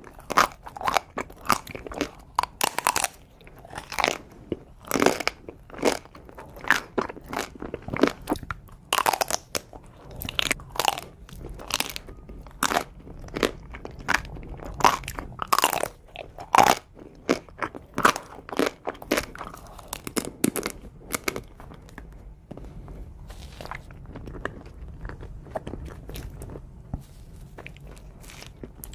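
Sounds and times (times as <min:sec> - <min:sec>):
person crunching ice cream: 0:00.0 - 0:28.9.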